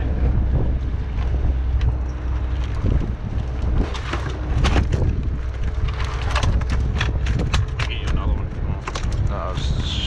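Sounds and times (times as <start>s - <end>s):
boat engine rumble: 0.0s - 10.0s
wind on microphone: 0.0s - 10.0s.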